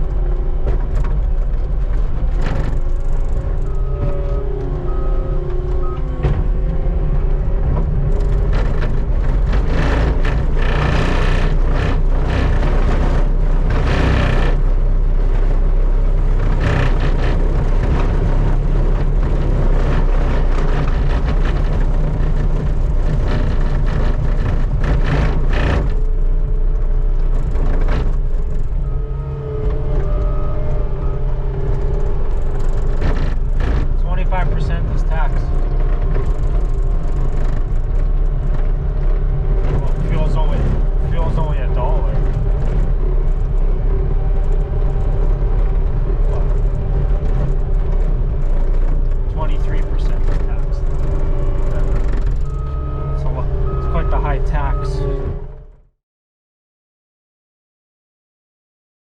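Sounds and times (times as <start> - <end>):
skid steer engine running: 0.0 - 55.9.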